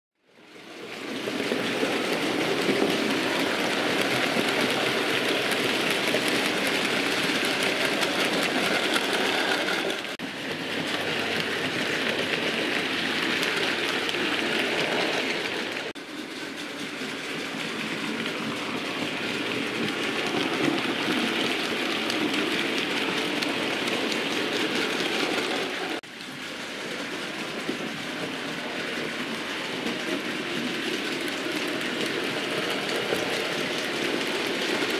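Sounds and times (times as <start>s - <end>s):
model train motors and wheels: 0.4s - 34.9s.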